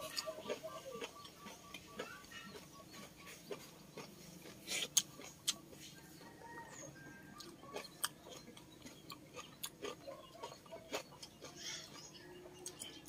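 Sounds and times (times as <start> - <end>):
mouth sounds from chewing: 0.0 - 13.0.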